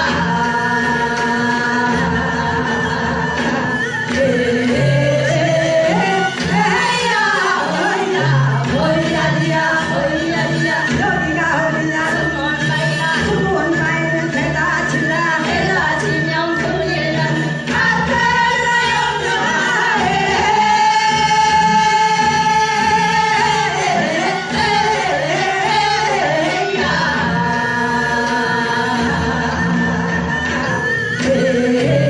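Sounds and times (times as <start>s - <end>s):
music with singing: 0.0s - 32.0s.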